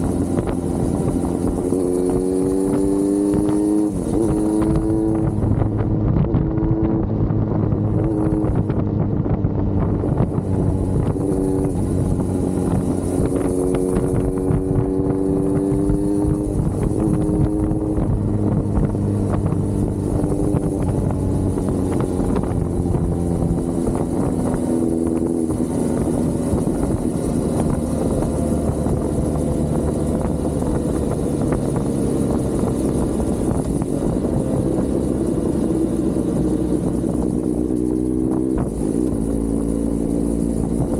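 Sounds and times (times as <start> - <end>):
motorcycle engine at speed: 0.0 - 40.9
wind and road noise: 0.0 - 40.9.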